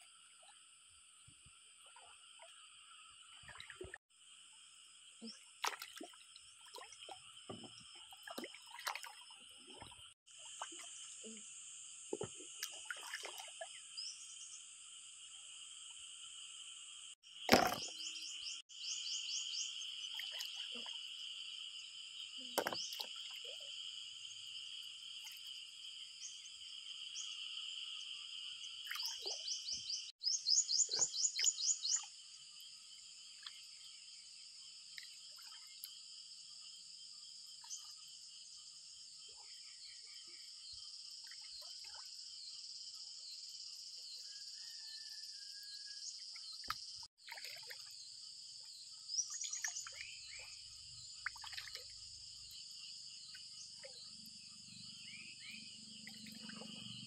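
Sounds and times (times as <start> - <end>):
insects calling: 0.0 - 57.0.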